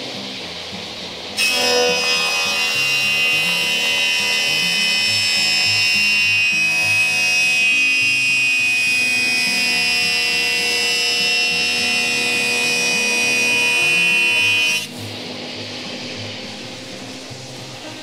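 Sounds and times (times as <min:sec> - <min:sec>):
jointer machine whining: 0:00.0 - 0:18.0.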